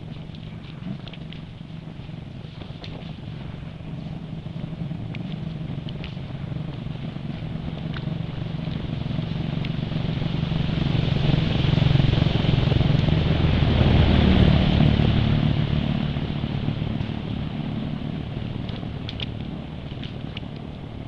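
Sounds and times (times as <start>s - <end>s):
vehicle engine passing by: 3.0s - 21.0s.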